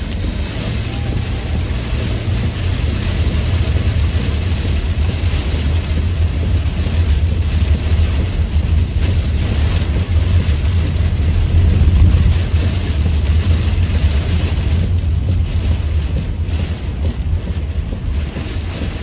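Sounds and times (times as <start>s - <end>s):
torrential rain pouring: 0.0s - 19.0s
wind buffeting microphone: 0.0s - 19.0s.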